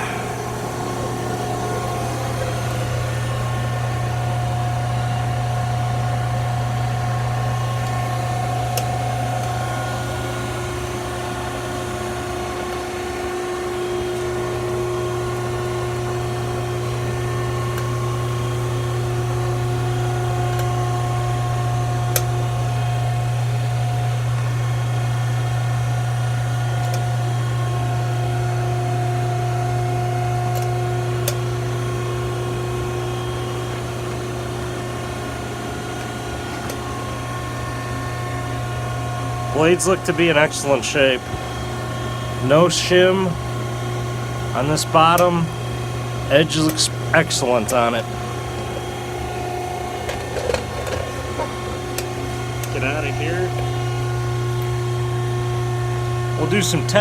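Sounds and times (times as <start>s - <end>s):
machine motor humming: 0.0s - 57.0s.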